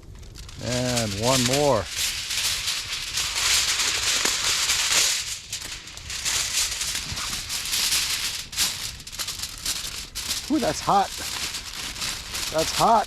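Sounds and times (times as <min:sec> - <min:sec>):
tin foil crinkling: 0:00.2 - 0:13.0.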